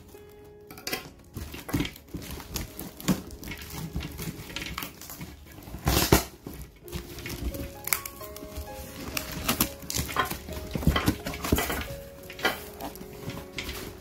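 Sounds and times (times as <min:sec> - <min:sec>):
cardboard box rustling: 0:01.0 - 0:14.0.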